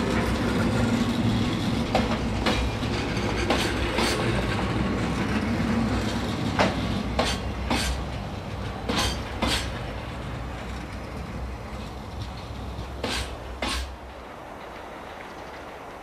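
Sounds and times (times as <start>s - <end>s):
low train rumble: 0.0s - 16.0s
wagon wheels clacking over rail joints: 0.0s - 16.0s.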